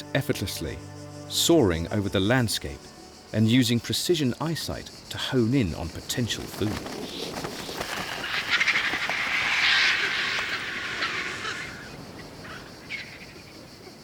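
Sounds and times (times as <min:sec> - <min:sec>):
vultures giving raspy hissing calls: 0:00.0 - 0:13.8.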